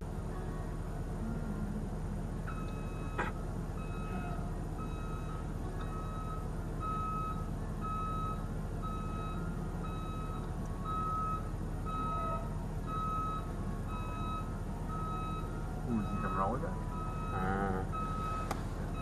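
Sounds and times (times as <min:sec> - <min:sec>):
low engine hum: 0:00.0 - 0:19.0
reversing alarm beeping: 0:02.5 - 0:19.0.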